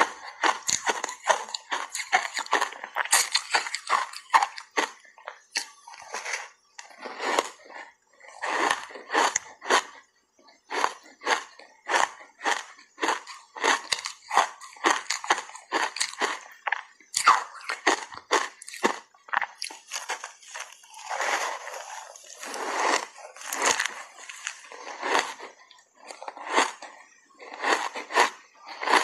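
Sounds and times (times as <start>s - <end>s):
crunching and chewing ice bar: 0.0s - 29.0s.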